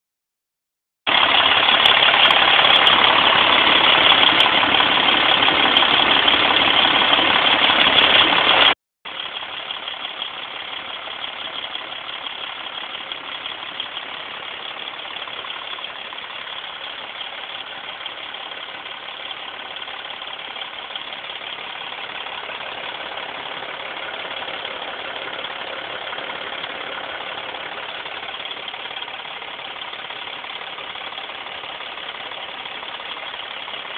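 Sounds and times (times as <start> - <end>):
diesel truck engine running: 1.1 - 33.9.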